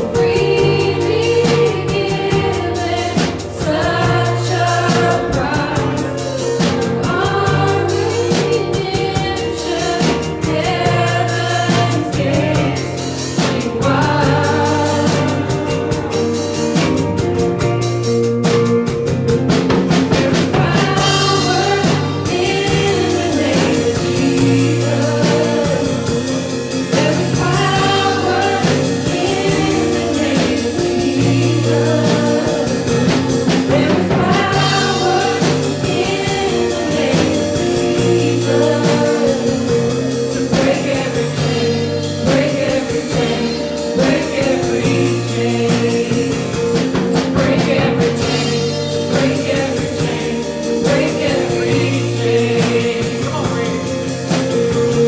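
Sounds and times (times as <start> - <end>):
man and women singing: 0.0 - 16.4, 19.9 - 55.0
acoustic and electric guitars: 0.0 - 55.0
bass line: 0.0 - 55.0.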